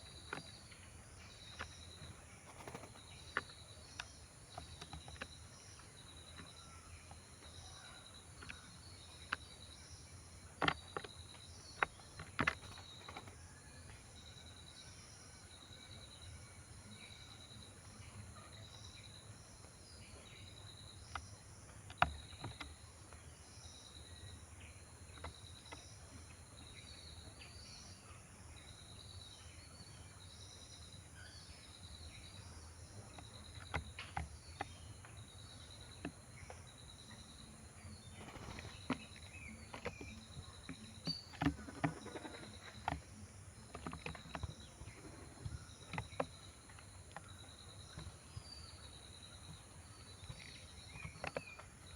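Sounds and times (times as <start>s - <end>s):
insect chirping: 0.0s - 51.9s.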